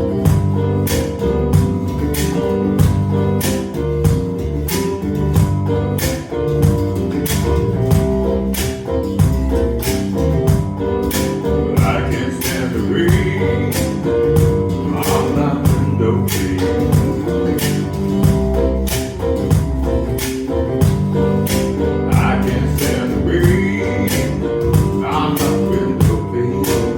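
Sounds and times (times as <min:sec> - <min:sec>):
guitar playing chords: 0:00.0 - 0:26.9
percussive beat: 0:00.0 - 0:26.9.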